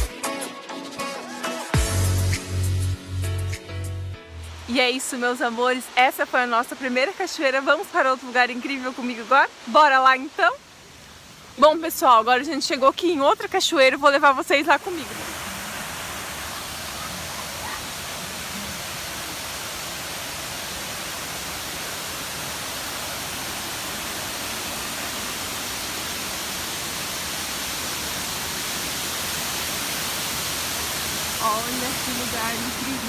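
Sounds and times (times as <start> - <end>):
waterfall rushing: 4.5 - 33.0.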